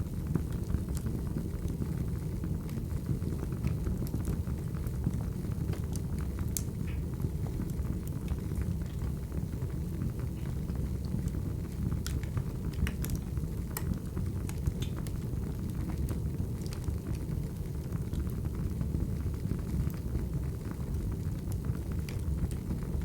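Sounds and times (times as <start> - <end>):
burning logs rumbling: 0.0 - 23.0
fire popping and snapping: 0.0 - 23.0.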